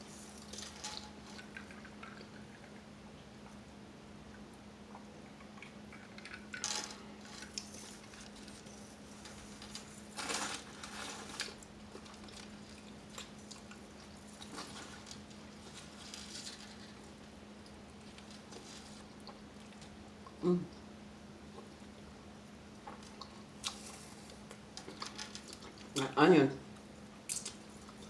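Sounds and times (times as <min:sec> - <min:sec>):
steady low hum: 0:00.0 - 0:28.0
close-miked eating and chewing: 0:00.1 - 0:28.0.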